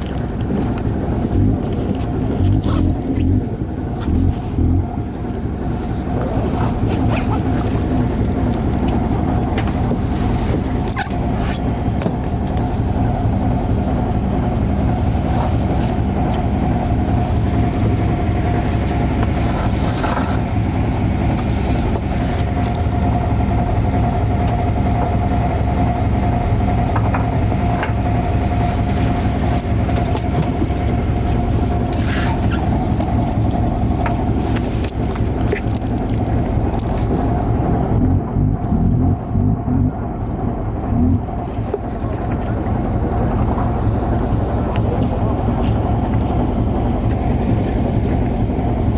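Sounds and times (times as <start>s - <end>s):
boat engine droning: 0.0s - 48.9s.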